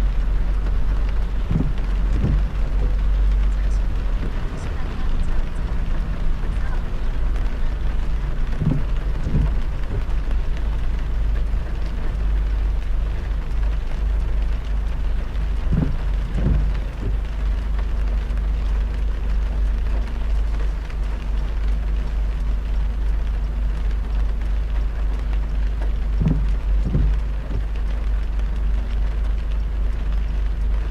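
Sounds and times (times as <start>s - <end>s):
soft low thumps: 0.0s - 28.9s
heavy rain on a car: 0.0s - 30.9s
road and tyre rumble: 0.0s - 30.9s.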